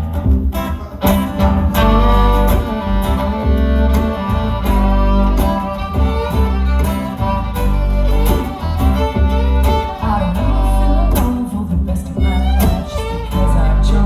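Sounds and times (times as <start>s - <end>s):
bass line: 0.0s - 14.0s
strummed guitar: 0.0s - 14.0s
fiddle melody: 1.0s - 14.0s.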